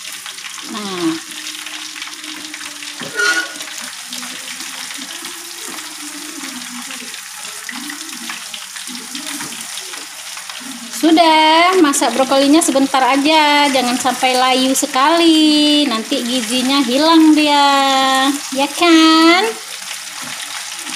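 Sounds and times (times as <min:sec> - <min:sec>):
vegetables sizzling in a wok: 0:00.0 - 0:20.9.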